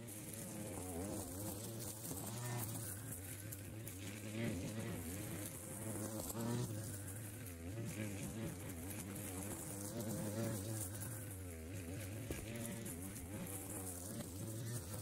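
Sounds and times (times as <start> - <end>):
distant string mower engine buzz: 0.0 - 15.0.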